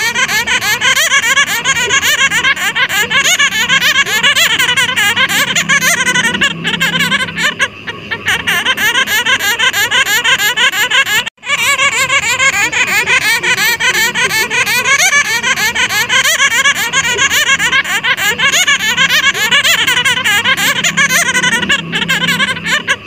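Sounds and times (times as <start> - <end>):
bats squeaking and chattering: 0.0 - 23.0.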